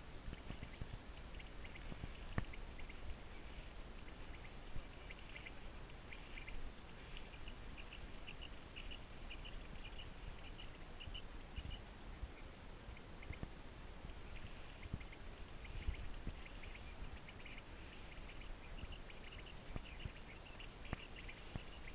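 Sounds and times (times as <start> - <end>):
wind rumble on microphone: 0.0 - 21.9.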